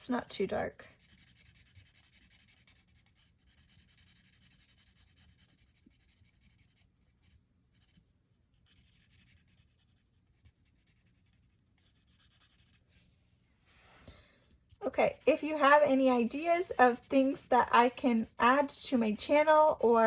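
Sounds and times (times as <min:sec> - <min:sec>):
colouring tool scratching paper: 0:00.0 - 0:08.0, 0:08.6 - 0:12.9, 0:14.8 - 0:20.0.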